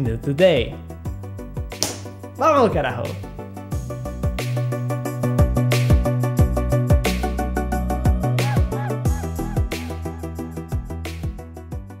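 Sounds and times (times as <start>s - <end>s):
outro music with steady beat: 0.9s - 12.0s.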